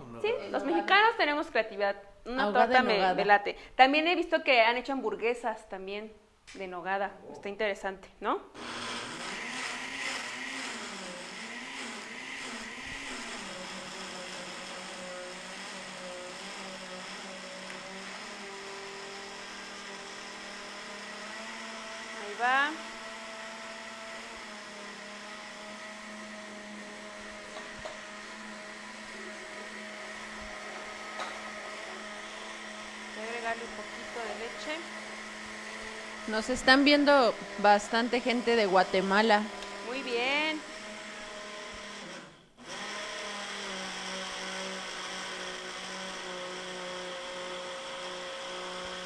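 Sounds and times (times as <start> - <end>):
blender motor running: 8.6 - 49.0.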